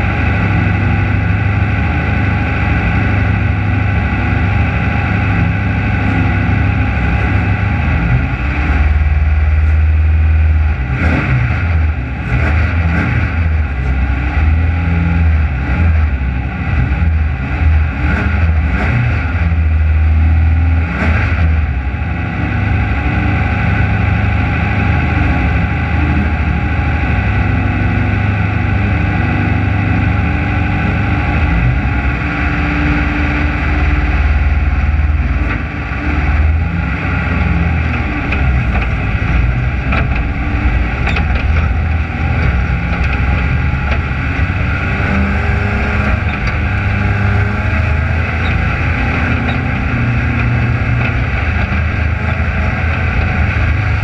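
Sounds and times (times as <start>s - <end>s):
race car engine at low revs: 0.0s - 54.0s.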